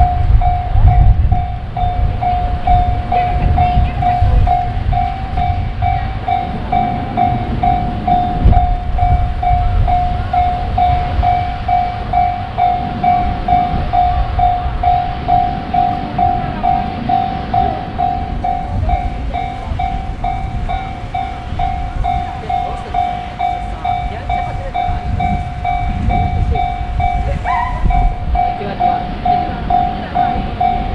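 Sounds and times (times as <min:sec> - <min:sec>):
level-crossing warning bell ringing: 0:00.0 - 0:30.9
train rumbling past: 0:00.0 - 0:30.9.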